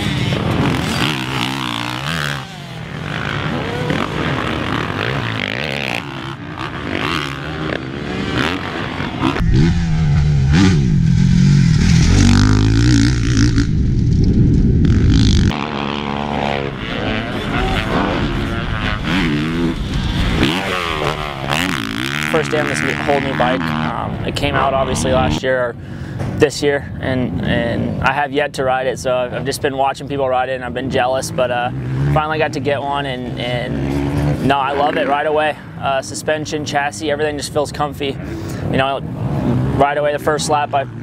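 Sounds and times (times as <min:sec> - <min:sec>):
motocross bike engine revving: 0:00.0 - 0:25.4, 0:30.9 - 0:35.8, 0:38.2 - 0:41.0.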